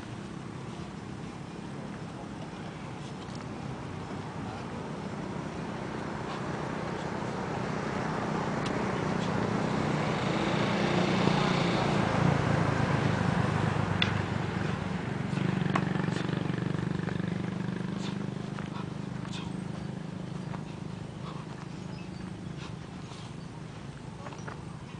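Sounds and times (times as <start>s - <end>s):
vehicle engine passing: 0.0s - 24.9s.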